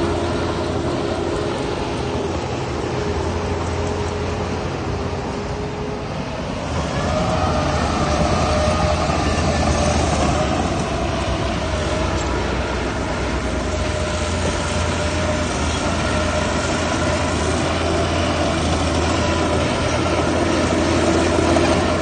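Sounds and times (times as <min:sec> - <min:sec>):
heavy diesel machinery droning: 0:00.0 - 0:22.0.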